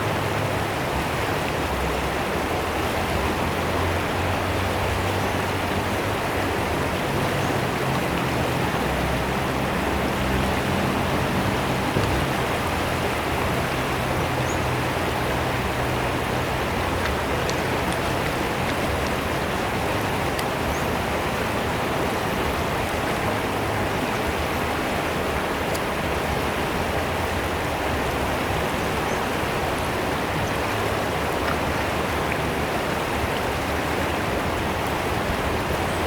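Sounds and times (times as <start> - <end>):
river water rushing and splashing: 0.0 - 36.0.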